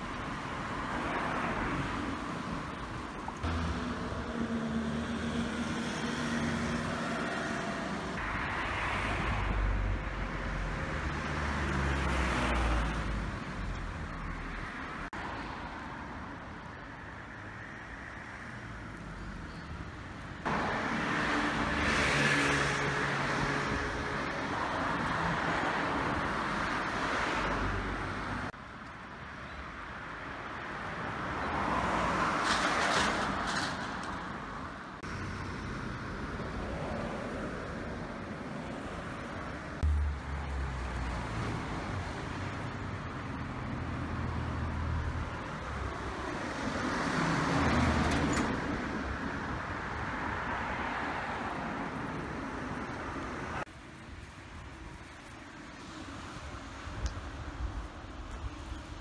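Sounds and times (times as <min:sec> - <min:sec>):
cars passing by: 0:00.0 - 0:59.0.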